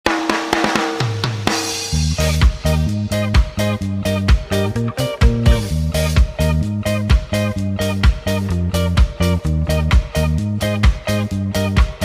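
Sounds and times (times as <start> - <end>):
regular drum beat: 0.0 - 12.0
bass line: 1.8 - 12.0.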